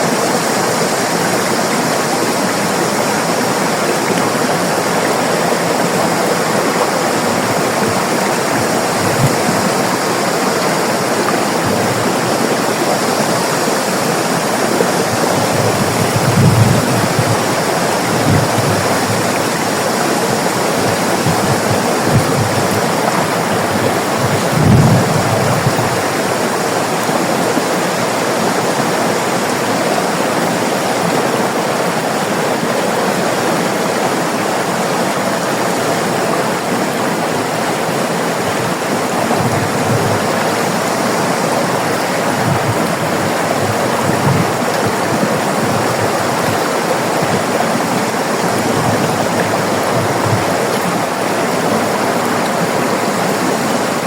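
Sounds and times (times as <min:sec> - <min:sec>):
low water splashes: 0:00.0 - 0:54.0
river water flowing over rocks: 0:00.0 - 0:54.0.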